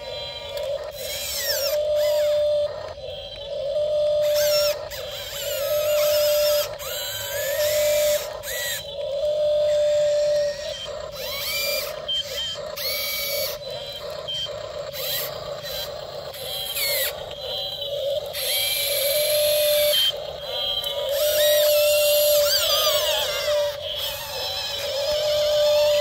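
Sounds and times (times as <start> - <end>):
electric motors humming: 0.0 - 26.0
hydraulic hissing whine: 0.0 - 26.0.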